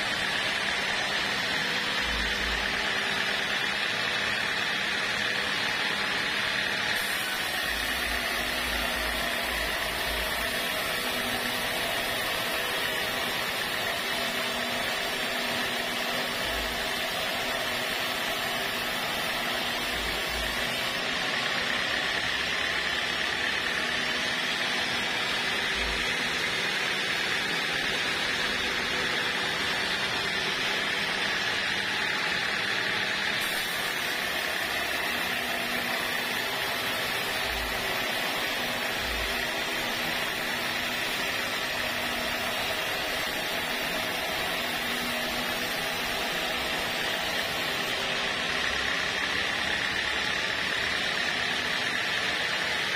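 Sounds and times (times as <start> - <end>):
band saw cutting log: 0.0 - 52.9
high saw whine: 0.0 - 52.9.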